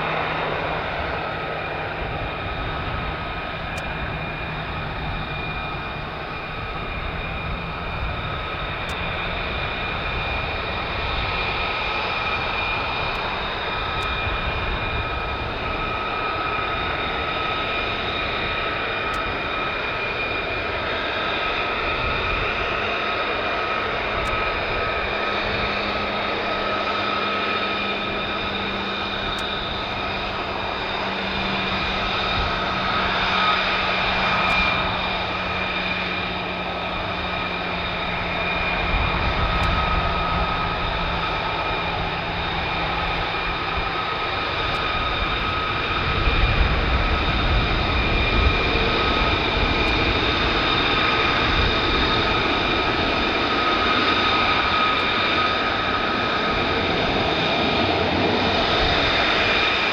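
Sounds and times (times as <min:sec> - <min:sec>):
fighter jet engine whine and roar: 0:00.0 - 0:59.9.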